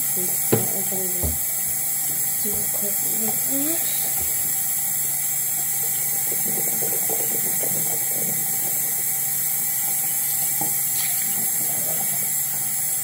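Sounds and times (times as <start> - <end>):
sink tap running: 0.0 - 13.0.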